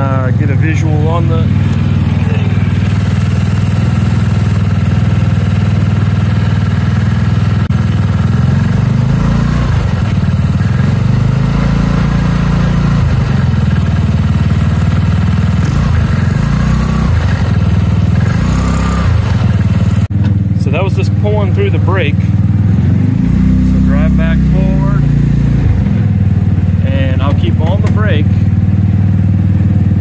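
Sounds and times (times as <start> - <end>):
kart engine idling in gear: 0.0 - 30.0.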